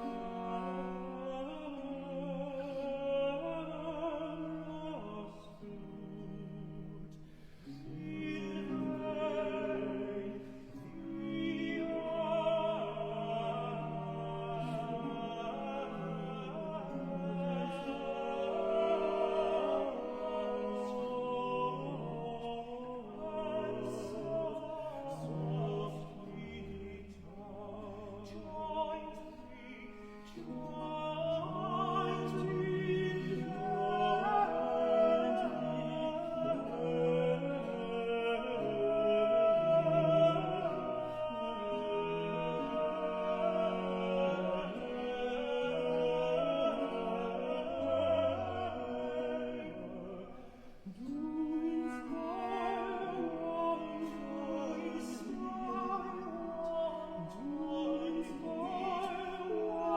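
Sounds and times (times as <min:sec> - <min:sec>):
baroque ensemble accompaniment: 0:00.0 - 0:59.9.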